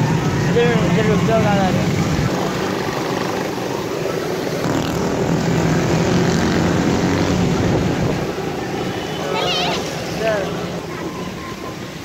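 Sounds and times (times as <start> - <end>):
tyres on wet road: 0.0 - 12.0
vehicle engine drone: 0.0 - 12.0.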